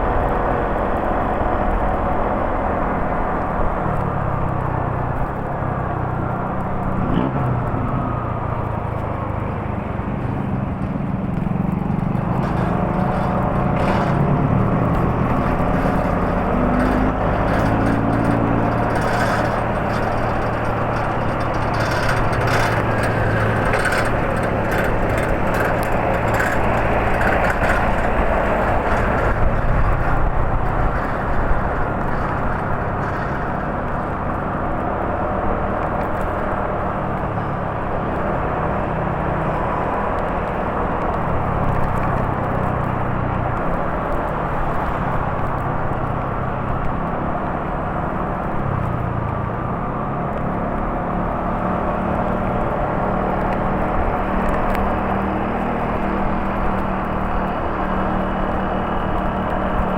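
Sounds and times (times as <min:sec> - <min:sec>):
vehicle engines humming: 0:00.0 - 0:59.9.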